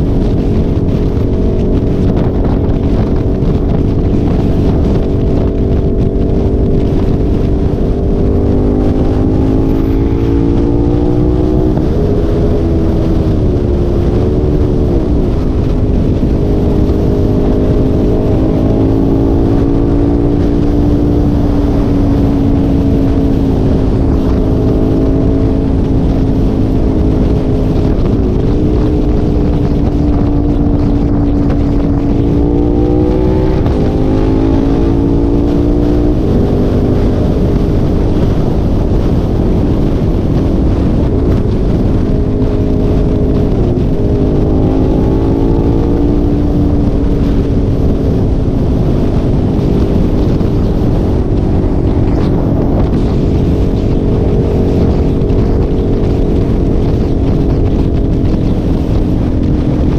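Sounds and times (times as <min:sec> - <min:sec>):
heavy low rumble: 0:00.0 - 0:59.9
vehicle engine running: 0:00.0 - 0:59.9.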